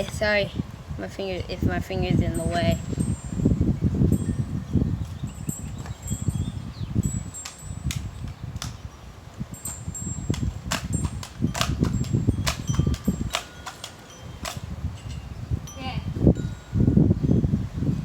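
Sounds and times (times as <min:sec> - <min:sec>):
wind buffeting microphone: 0:00.0 - 0:18.0
wind chime ringing: 0:02.4 - 0:17.6.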